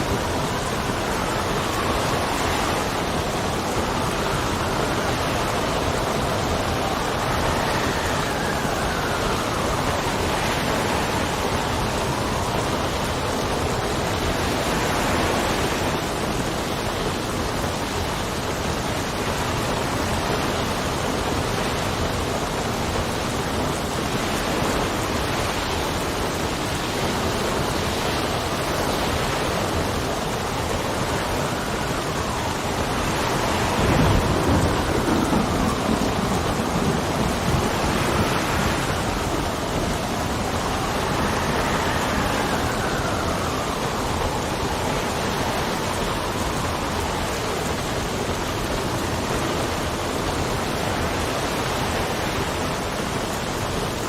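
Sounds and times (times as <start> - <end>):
steady rain: 0.0 - 54.0
wind whistling: 0.0 - 54.0.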